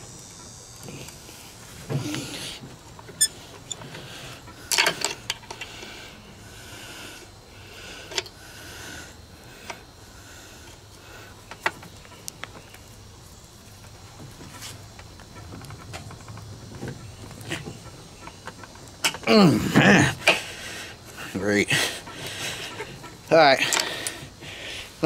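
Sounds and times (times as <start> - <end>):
steady high buzz: 0.0 - 25.0.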